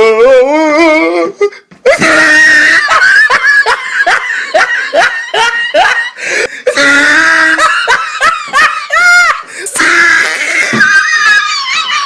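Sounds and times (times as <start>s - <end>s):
person laughing in high bursts: 1.8s - 12.0s.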